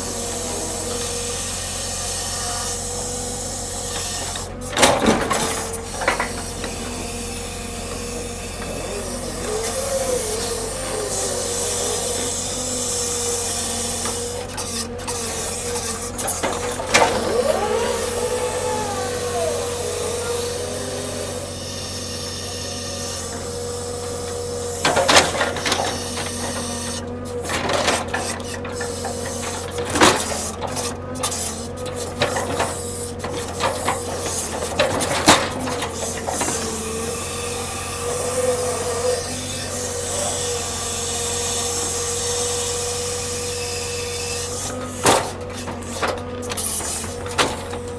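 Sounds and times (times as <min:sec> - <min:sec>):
hydraulic machinery whining: 0:00.0 - 0:47.9.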